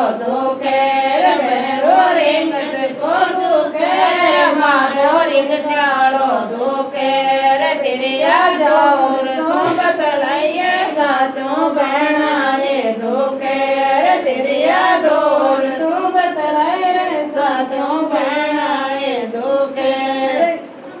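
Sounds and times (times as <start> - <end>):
women singing folk song: 0.0 - 20.8.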